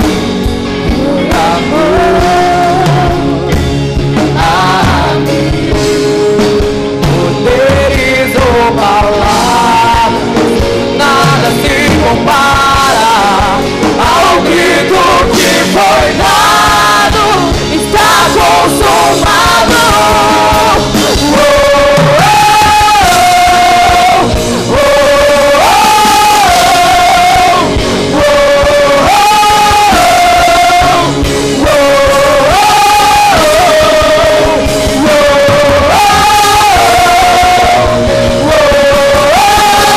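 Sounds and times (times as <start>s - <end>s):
people singing into microphones: 0.0s - 39.9s
rock worship band playing: 0.0s - 39.9s.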